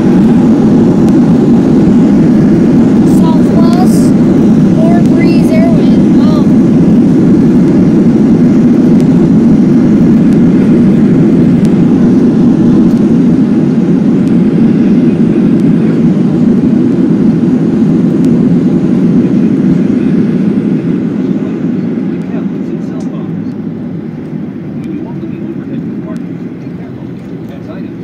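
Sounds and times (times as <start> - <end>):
jet engines and runway rumble: 0.0 - 28.0.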